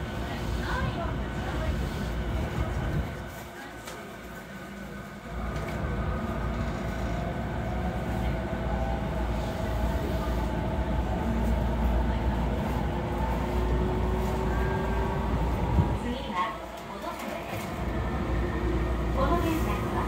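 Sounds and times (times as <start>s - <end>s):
train running gear rumble: 0.0s - 20.0s.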